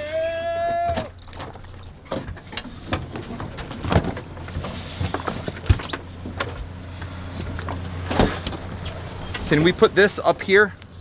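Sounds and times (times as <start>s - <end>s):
boat engine idling: 1.1s - 11.0s.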